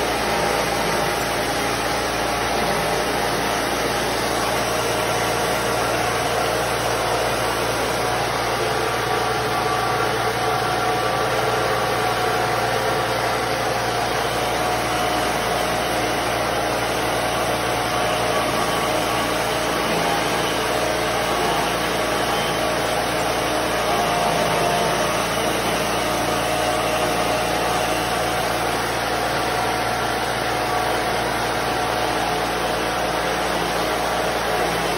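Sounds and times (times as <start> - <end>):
pulping machine motor hum: 0.0 - 34.9.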